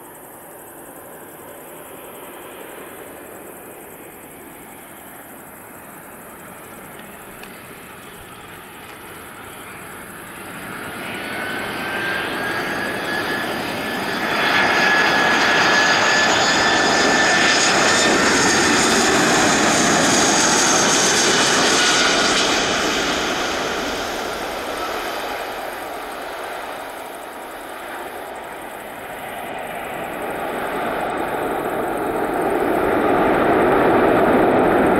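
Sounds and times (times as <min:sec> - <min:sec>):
jet airliner flying past: 0:00.0 - 0:34.9.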